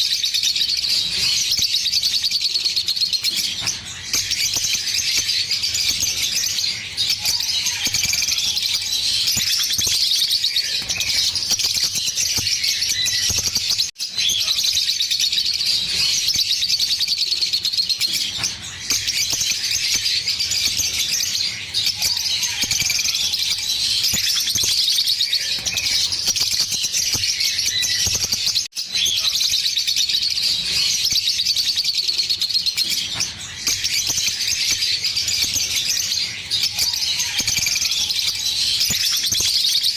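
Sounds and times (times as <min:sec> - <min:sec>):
lovebirds chirping and trilling: 0:00.0 - 0:39.9.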